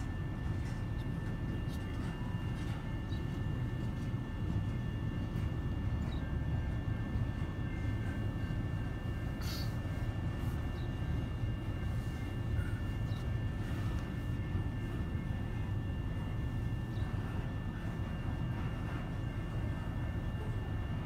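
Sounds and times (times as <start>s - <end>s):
freight train cars rumbling: 0.0s - 21.0s.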